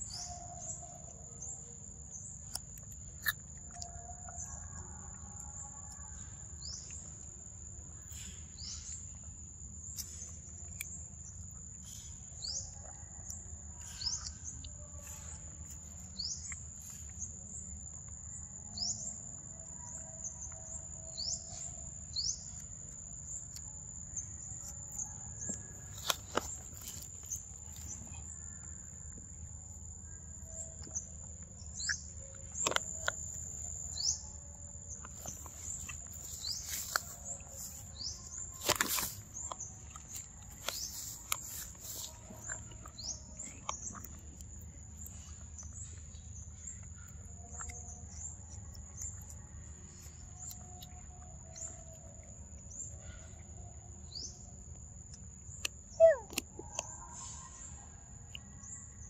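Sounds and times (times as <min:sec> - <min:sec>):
bird chirping: 0:08.0 - 0:57.8.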